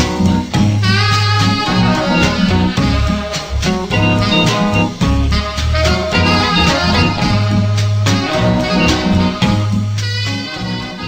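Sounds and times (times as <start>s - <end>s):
upbeat swing jazz music: 0.0s - 11.0s.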